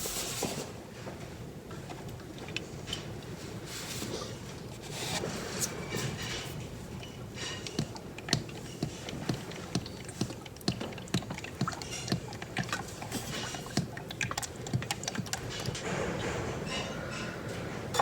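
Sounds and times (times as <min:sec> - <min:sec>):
oil glugging from a jug: 0:01.9 - 0:16.7.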